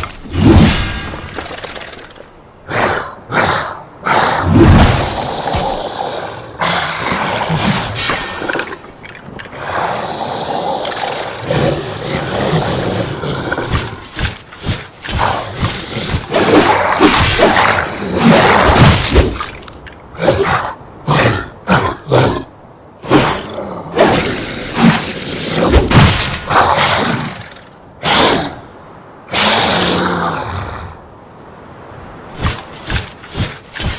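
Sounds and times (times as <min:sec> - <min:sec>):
monster roars and growls: 0:00.3 - 0:08.9, 0:09.5 - 0:28.6, 0:29.3 - 0:31.0.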